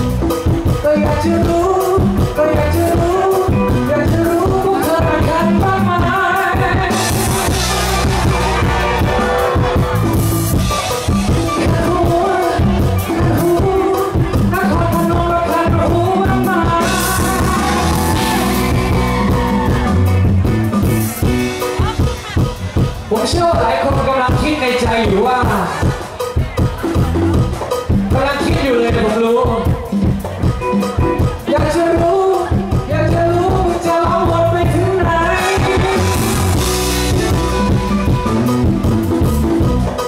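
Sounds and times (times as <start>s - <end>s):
pop-rock band playing: 0.0s - 40.0s
man singing: 0.3s - 10.1s, 10.9s - 20.2s, 21.7s - 30.4s, 31.0s - 38.3s.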